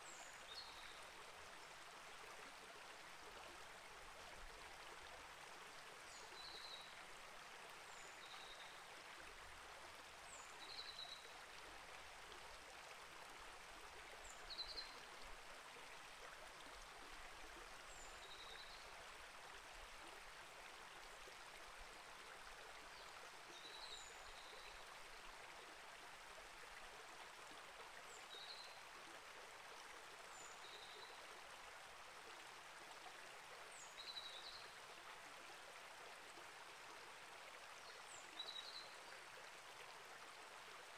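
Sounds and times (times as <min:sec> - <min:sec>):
creek flowing: 0:00.0 - 0:40.9.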